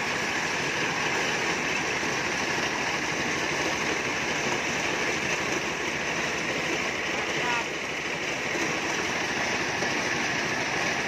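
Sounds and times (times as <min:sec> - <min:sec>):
corn sheller machine rattling: 0:00.0 - 0:11.0.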